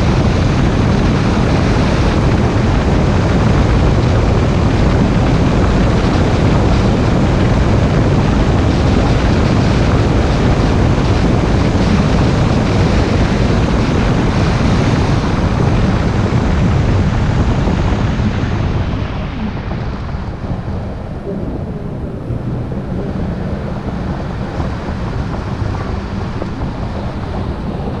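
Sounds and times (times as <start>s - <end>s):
road and tyre noise: 0.0s - 28.0s
wind rush: 0.0s - 28.0s.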